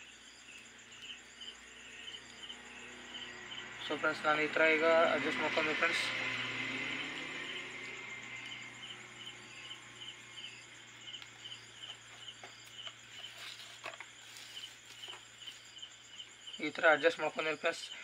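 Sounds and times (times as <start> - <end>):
cricket chirping: 0.0 - 18.0.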